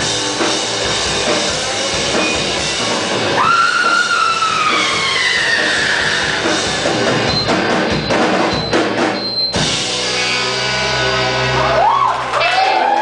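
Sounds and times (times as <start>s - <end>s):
drums pounding: 0.0s - 12.4s
rock band playing: 0.0s - 13.0s.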